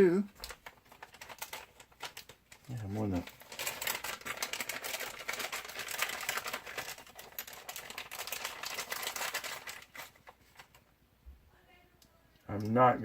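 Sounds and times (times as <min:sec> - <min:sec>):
plastic parts clicking and rattling: 0:00.3 - 0:10.8.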